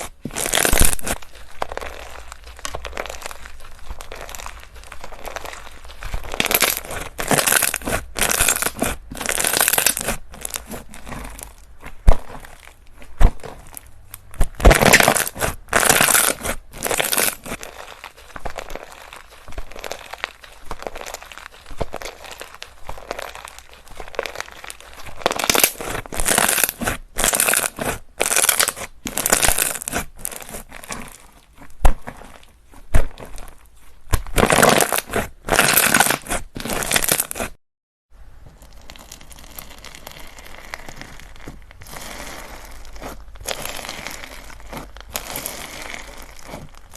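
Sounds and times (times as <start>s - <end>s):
slime squishing: 0.0s - 37.6s, 38.3s - 46.9s.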